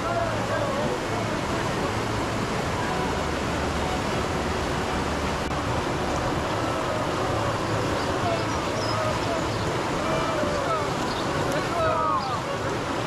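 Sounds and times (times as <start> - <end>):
whitewater rushing over rocks: 0.0 - 13.0.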